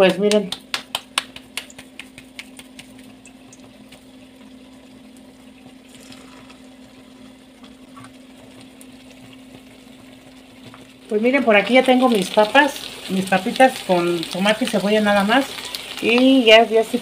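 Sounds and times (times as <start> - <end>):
steady low hum: 0.0 - 14.4
dough frying in hot oil: 0.0 - 17.0.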